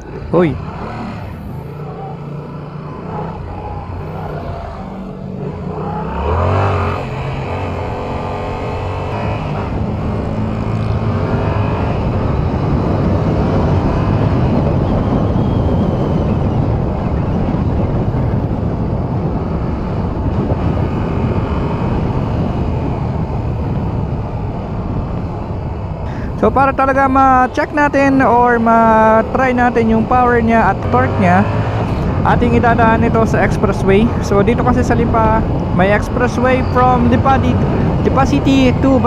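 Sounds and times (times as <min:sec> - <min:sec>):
motorcycle engine accelerating: 0:00.0 - 0:39.0
wind and road noise: 0:00.0 - 0:39.0.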